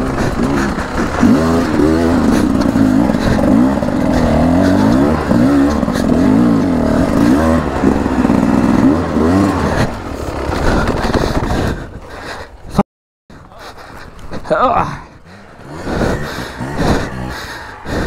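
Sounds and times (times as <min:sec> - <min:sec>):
dirt bike engine revving: 0:00.0 - 0:11.9, 0:14.8 - 0:18.0.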